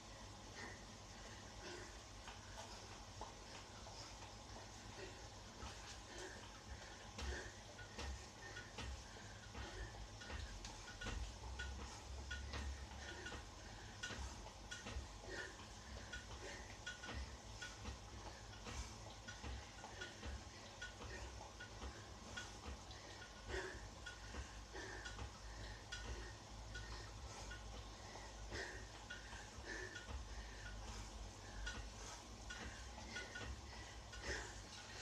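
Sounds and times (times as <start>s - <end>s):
rhythmic ticking of bike: 0.0s - 35.0s.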